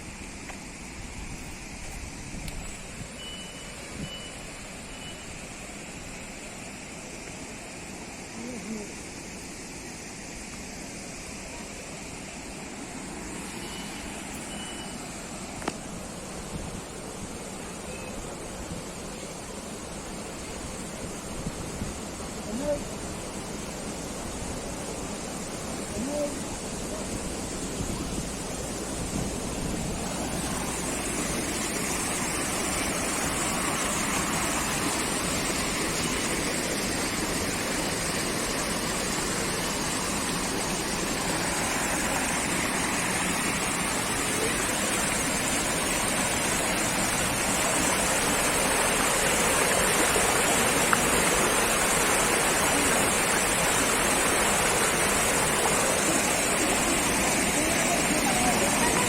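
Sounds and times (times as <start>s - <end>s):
flowing water rushing: 0.0s - 59.0s.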